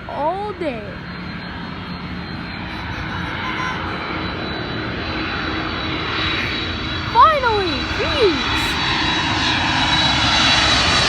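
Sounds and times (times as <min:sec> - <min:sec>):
jet engines of landing plane: 0:00.0 - 0:11.0.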